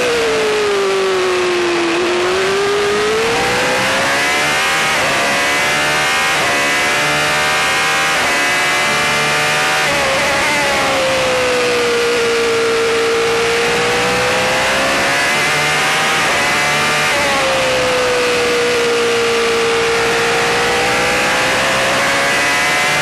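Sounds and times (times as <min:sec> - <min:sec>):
racing car engine: 0:00.0 - 0:23.0.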